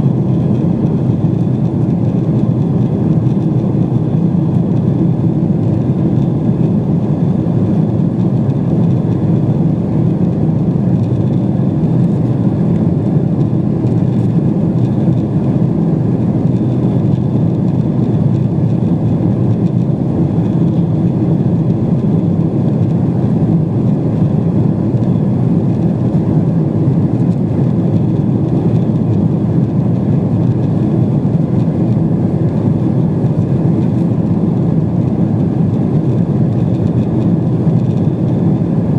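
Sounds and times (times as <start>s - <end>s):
jet engine and airflow cabin noise: 0.0s - 38.9s.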